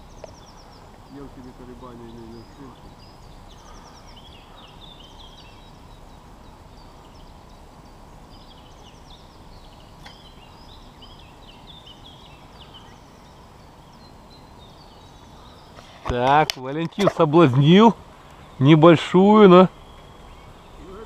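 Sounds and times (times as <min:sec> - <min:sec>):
low background rush: 0:00.0 - 0:21.0
songbirds chirping: 0:00.0 - 0:21.0.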